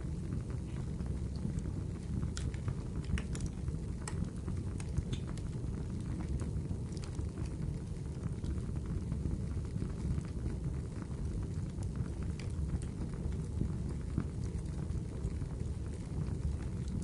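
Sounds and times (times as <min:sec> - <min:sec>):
fire crackles and pops: 0:00.0 - 0:17.0
rumble of flames: 0:00.0 - 0:17.0.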